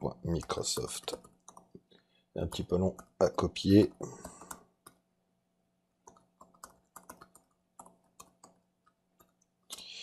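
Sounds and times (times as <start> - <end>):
faint keyboard typing: 0.1 - 5.1, 6.0 - 9.9.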